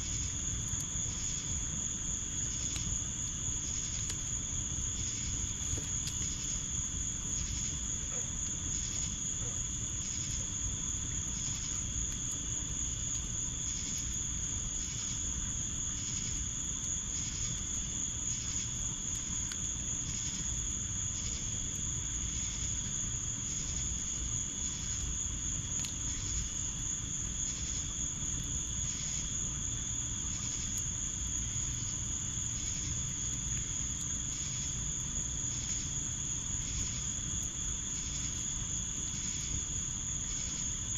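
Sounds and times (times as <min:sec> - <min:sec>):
insect chirping in pulses: 0:00.0 - 0:40.9.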